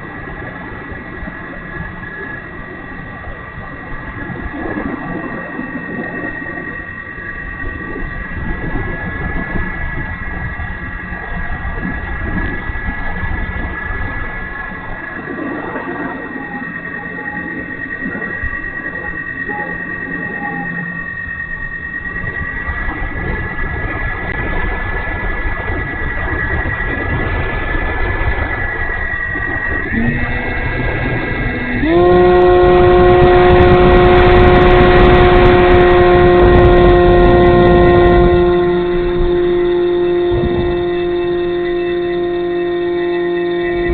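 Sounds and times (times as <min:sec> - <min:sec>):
low rumble: 0:00.0 - 0:43.9
model plane motor whining: 0:00.0 - 0:43.9.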